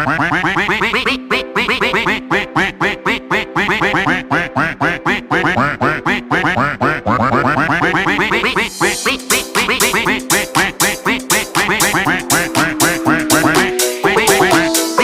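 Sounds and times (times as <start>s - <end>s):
rapid duck quacks: 0.0s - 15.0s
music with held notes: 1.0s - 15.0s.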